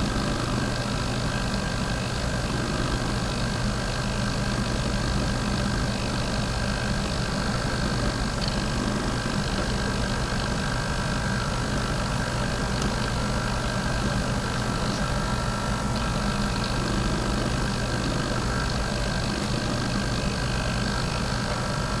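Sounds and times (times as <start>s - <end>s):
robot motors humming: 0.0s - 22.0s.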